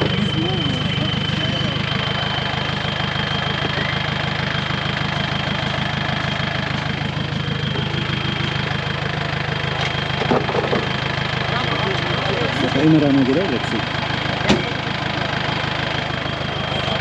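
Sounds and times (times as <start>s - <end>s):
high-pitched whine: 0.0s - 13.8s
car engine idling: 0.0s - 17.0s.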